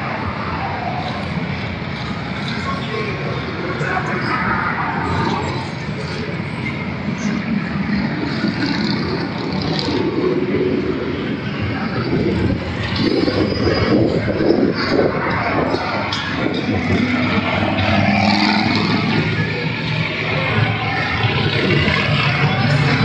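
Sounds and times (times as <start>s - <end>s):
cars passing: 0.0s - 23.0s
motorcycle engines rumbling: 0.0s - 23.0s.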